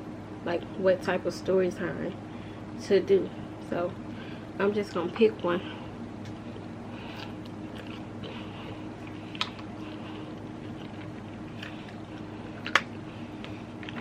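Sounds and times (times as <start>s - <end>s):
steady low hum: 0.0s - 14.0s
faint eating noises: 1.7s - 14.0s.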